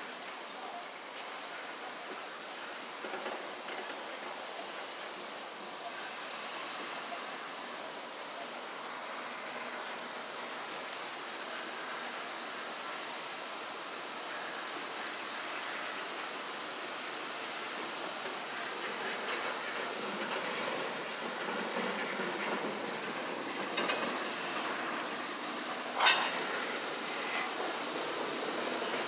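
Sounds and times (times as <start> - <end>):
freight train wheels on rail: 0.0 - 29.0.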